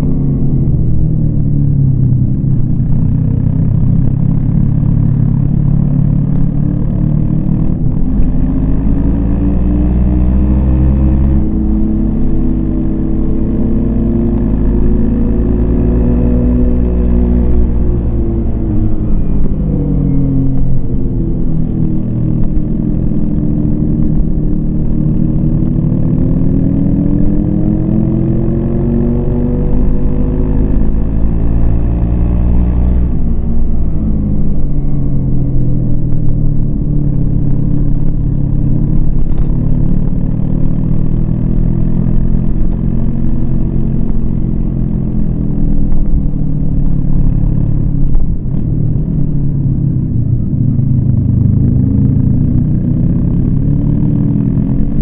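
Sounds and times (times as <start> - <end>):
motorcycle engine revving: 0.0 - 55.0
steady low rumble: 0.0 - 55.0.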